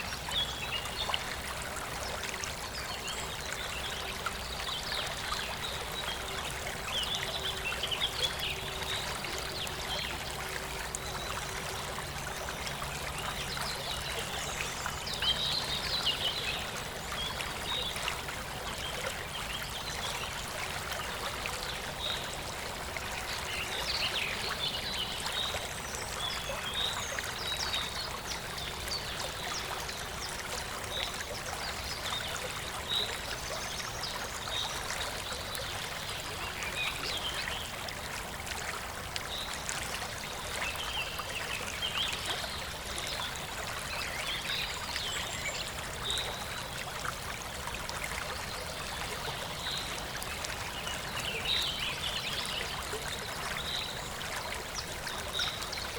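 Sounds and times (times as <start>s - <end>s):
stream running water: 0.0s - 55.9s.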